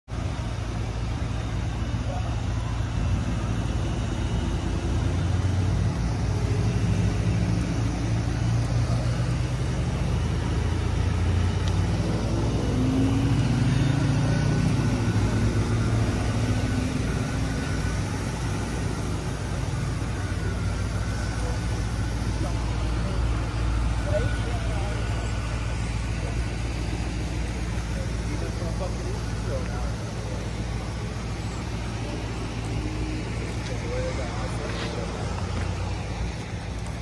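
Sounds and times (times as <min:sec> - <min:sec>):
car engine idling: 0:00.0 - 0:37.0
faint voices: 0:00.2 - 0:37.0.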